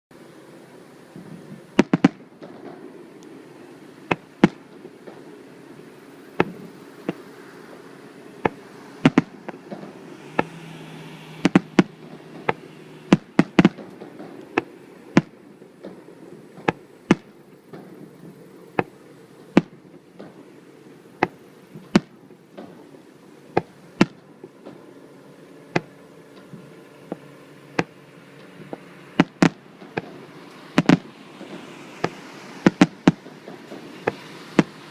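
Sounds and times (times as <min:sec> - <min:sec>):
background noise: 0:00.1 - 0:34.9
firework shells bursting: 0:00.5 - 0:34.9.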